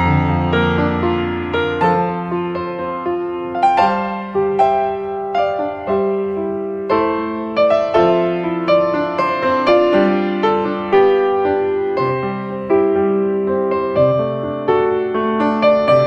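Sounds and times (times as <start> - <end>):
piano notes and chords: 0.0 - 16.0.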